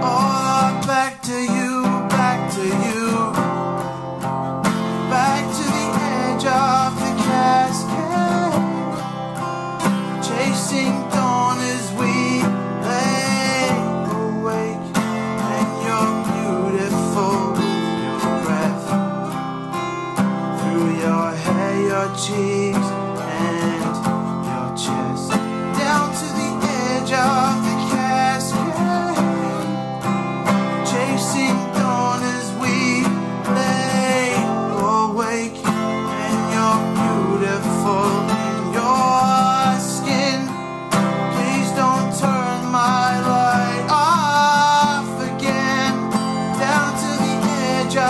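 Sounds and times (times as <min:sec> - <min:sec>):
acoustic guitars playing: 0:00.0 - 0:48.0
man singing: 0:00.0 - 0:48.0.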